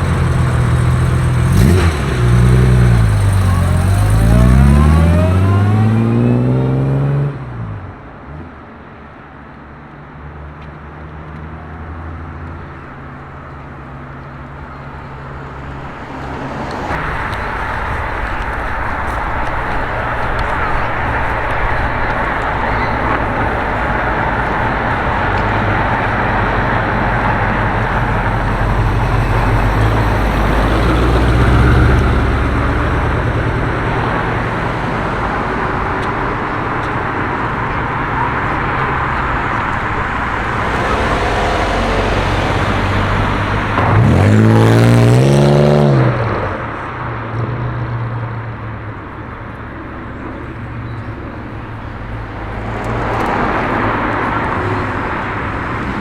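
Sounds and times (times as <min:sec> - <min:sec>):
car engine revving: 0:00.0 - 0:07.6, 0:13.2 - 0:46.8, 0:50.4 - 0:56.0
road traffic rumble: 0:00.0 - 0:56.0.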